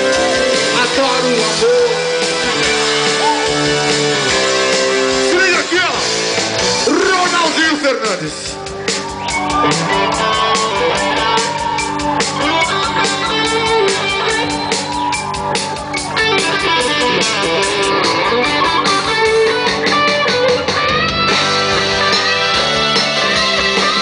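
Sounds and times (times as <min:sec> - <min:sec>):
bass: 0:00.0 - 0:24.0
drums: 0:00.0 - 0:24.0
electric guitar lead: 0:00.0 - 0:24.0.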